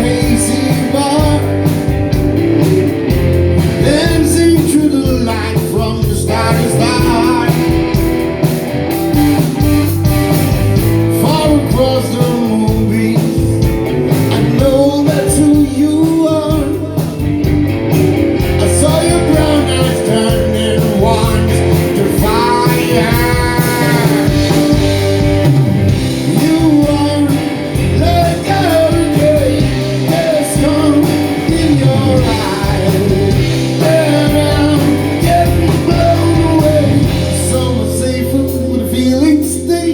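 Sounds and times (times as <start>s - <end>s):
person singing: 0.0s - 1.7s, 2.5s - 8.0s, 11.1s - 13.7s, 14.3s - 17.2s, 18.5s - 25.5s, 26.1s - 39.9s
blues rock band playing: 0.0s - 39.9s
electric guitar: 0.0s - 39.9s.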